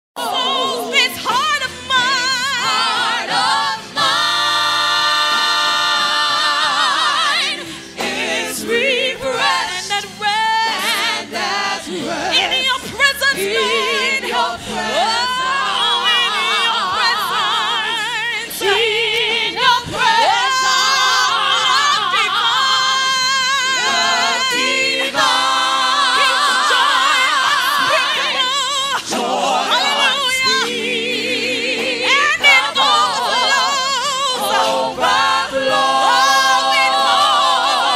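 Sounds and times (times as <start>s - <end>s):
gospel singers singing: 0.2s - 37.9s.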